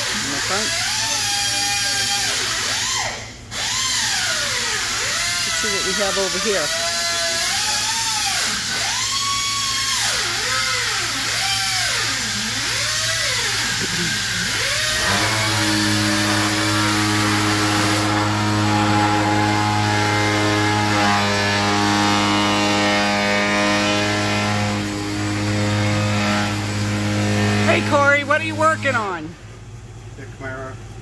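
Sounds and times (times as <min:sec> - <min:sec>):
low machine drone: 0:00.0 - 0:29.5
air tool whining: 0:00.0 - 0:29.7.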